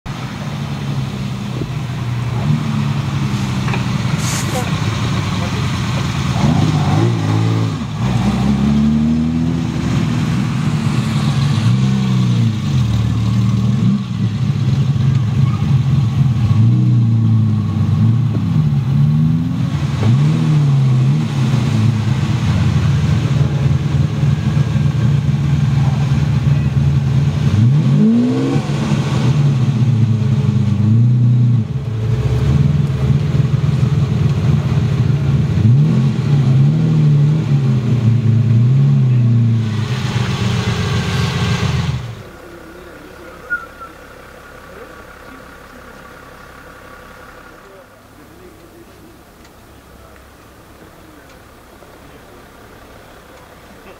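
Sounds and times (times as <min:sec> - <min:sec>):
car engine revving: 0:00.1 - 0:53.9.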